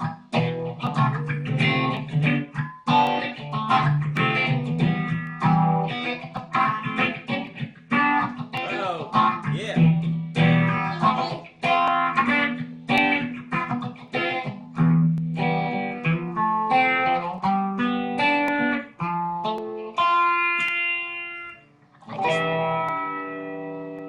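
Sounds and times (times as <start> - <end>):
plucked string instrument: 0.0 - 24.0.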